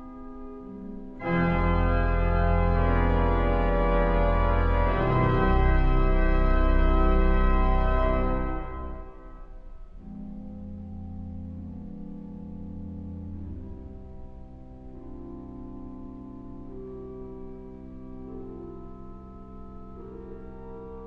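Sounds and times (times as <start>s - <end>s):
pipe organ chords: 1.2s - 21.0s.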